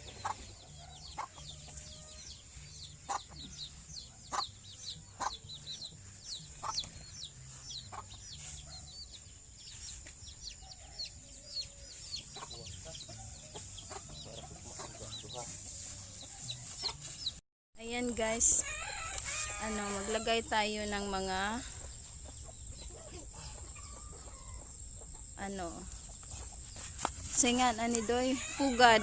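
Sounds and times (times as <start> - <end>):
chickens clucking: 0.0 - 2.0, 2.7 - 9.2, 9.8 - 17.4, 19.4 - 29.0.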